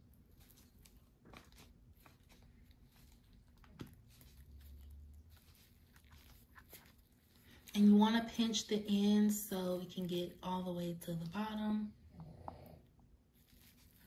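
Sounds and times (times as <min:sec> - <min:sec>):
plastic gloves crinkling: 0:00.0 - 0:11.9, 0:13.0 - 0:14.0.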